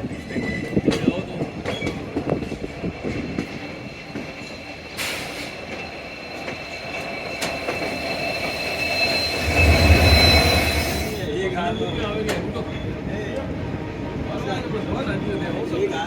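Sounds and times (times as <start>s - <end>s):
train wheels squealing on rails: 0.0s - 13.4s, 14.4s - 16.0s
train rumble: 0.0s - 16.0s.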